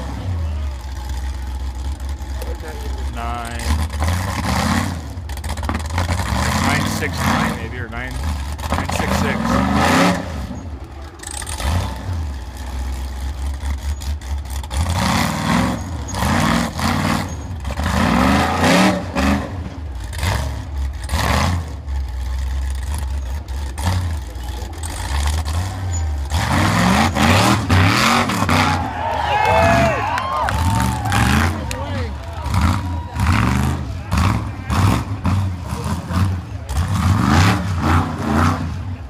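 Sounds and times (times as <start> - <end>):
buggy engine revving: 0.0 - 39.0
low engine rumble: 0.0 - 39.0.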